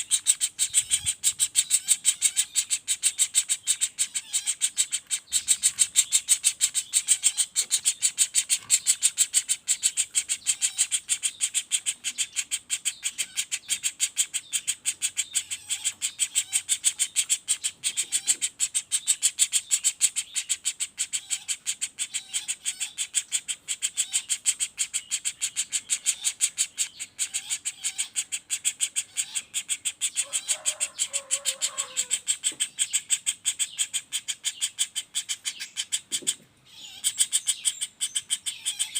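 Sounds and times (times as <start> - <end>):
woodpecker rattling call: 0.0 - 38.9.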